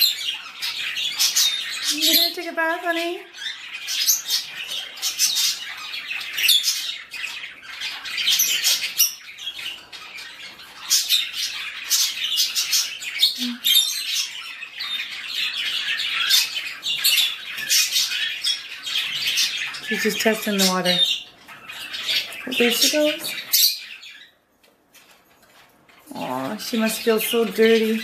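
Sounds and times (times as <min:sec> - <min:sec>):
canaries chirping: 0:00.0 - 0:28.0.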